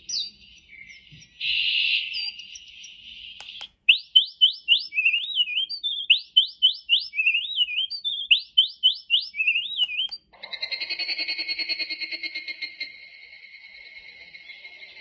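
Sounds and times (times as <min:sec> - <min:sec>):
recorded birdsong whistles: 0:00.0 - 0:11.9, 0:12.5 - 0:15.0.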